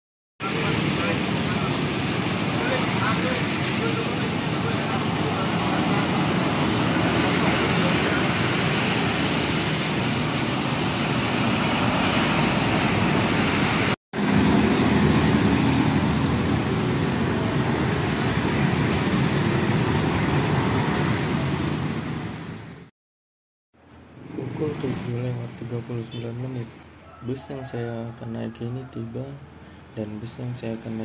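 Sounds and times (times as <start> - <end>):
road traffic on wet street: 0.4 - 22.9, 23.8 - 30.0.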